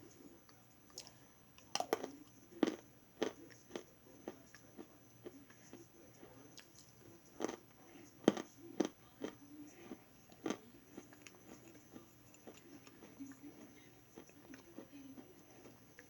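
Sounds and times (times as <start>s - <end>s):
crunchy chewing: 0.5s - 16.0s.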